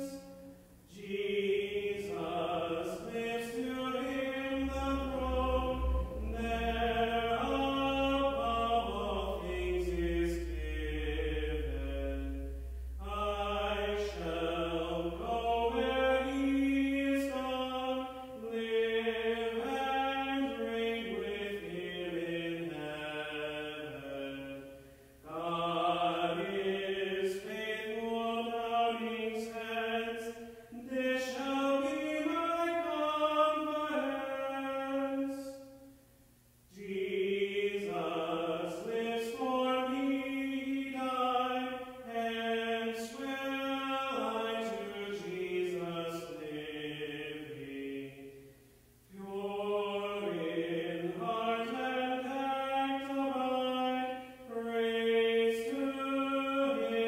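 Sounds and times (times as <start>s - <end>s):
man singing a hymn unaccompanied: 0.0s - 35.9s, 36.7s - 48.5s, 49.1s - 57.0s.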